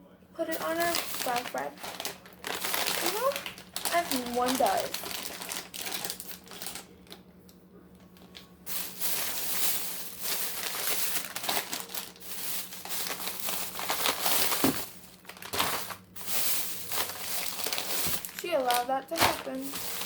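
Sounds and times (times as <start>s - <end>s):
plastic packaging crinkling: 0.4s - 7.3s, 8.0s - 20.0s.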